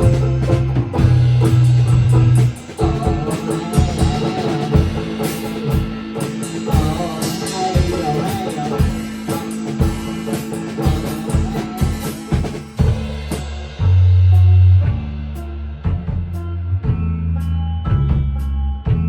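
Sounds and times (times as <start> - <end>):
rock band playing: 0.0 - 18.2.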